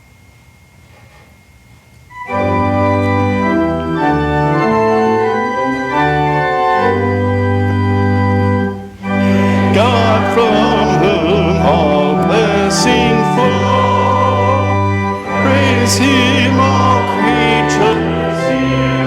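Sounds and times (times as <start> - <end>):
church organ chords: 2.1 - 19.0.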